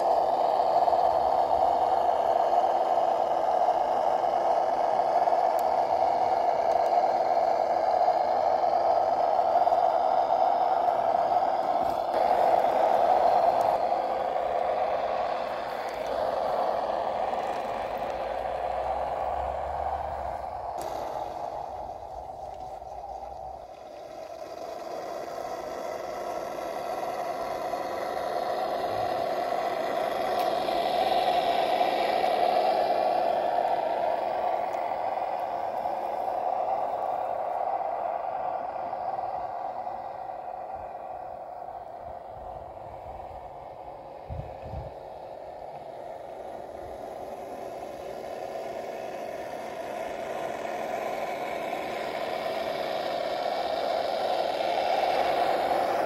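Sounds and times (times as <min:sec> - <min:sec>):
electric motor and gears whining: 0:00.0 - 0:56.0
simulated truck engine sound: 0:00.0 - 0:56.0.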